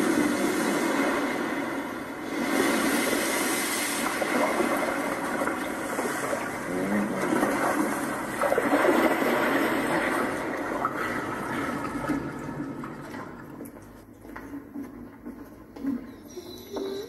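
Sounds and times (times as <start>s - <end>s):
muffled bubbling pool water: 0.0s - 17.0s.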